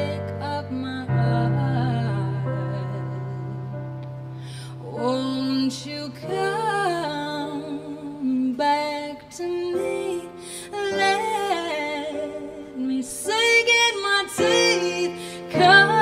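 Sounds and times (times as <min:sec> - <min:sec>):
woman singing slow melody: 0:00.0 - 0:16.0.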